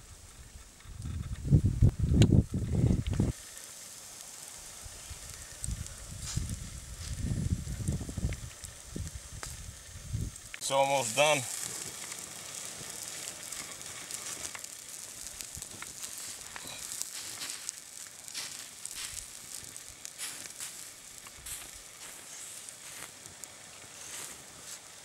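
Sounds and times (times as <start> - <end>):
meat sizzling over coals: 0.0 - 25.0
pops and crackles of embers: 0.1 - 25.0.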